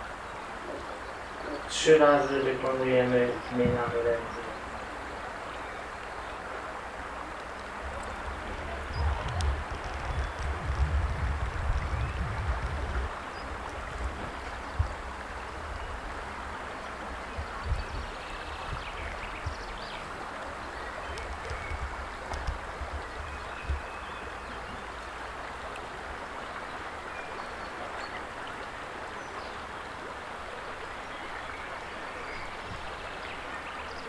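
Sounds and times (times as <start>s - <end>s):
river flowing: 0.0s - 34.0s.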